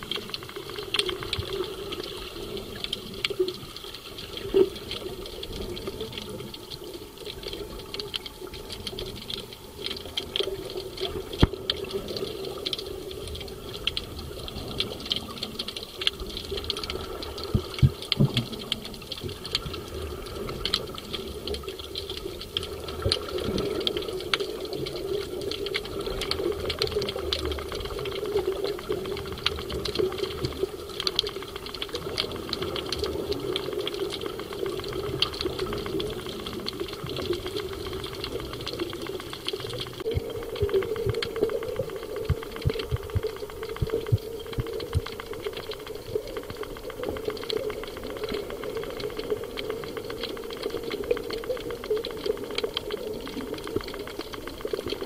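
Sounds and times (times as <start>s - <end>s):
dense crackle of clicks: 0.0s - 55.0s
steady underwater hum: 0.0s - 55.0s.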